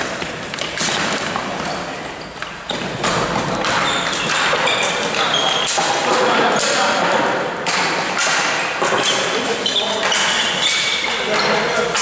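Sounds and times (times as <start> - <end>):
hockey sticks and ball knocking: 0.0 - 12.0.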